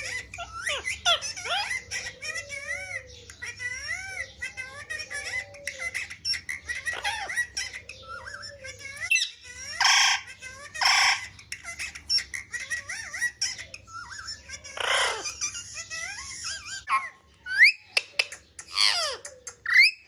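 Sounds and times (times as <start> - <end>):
parrot squawks: 0.0 - 18.0, 18.7 - 20.0
parrot whistling chatter: 0.0 - 20.0.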